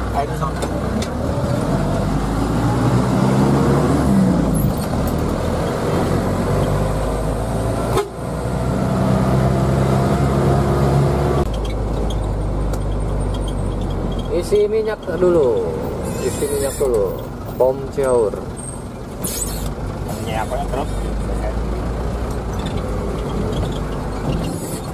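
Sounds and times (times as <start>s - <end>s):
diesel engine drone: 0.0s - 24.9s.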